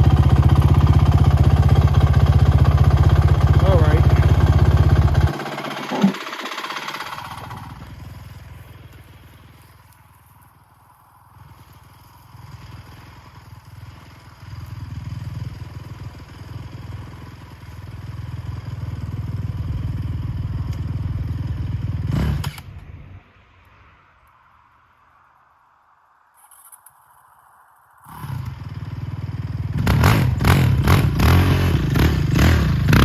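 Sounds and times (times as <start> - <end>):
quad bike engine running: 0.0 - 22.7, 28.0 - 33.0.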